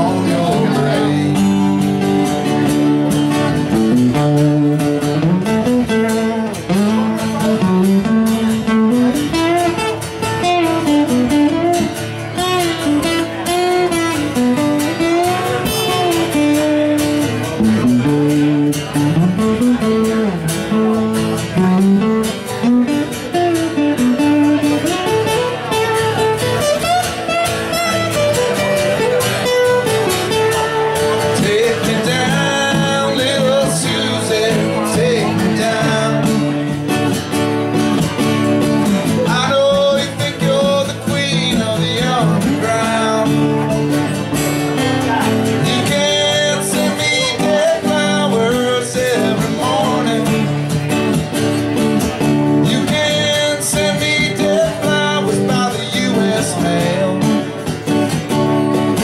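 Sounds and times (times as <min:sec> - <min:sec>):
acoustic guitars playing: 0:00.0 - 0:59.0.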